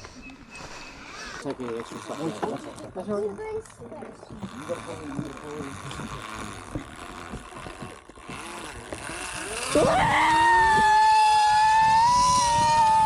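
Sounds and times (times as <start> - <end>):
zipline trolley running on cable: 0.0 - 13.0.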